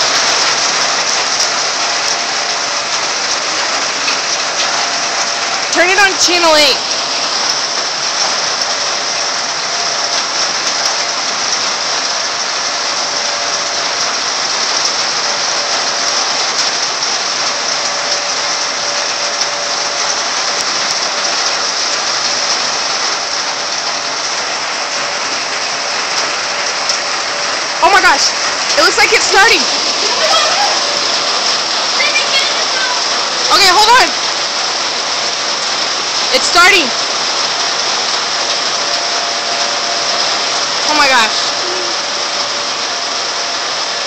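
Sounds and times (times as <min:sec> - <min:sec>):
rain pouring: 0:00.0 - 0:44.0.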